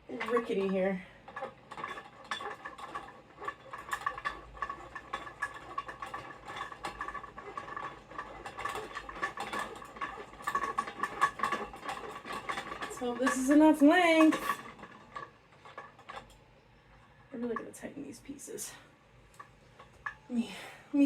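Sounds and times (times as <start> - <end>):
metal pole parts clicking: 0.0 - 18.0, 19.3 - 20.3.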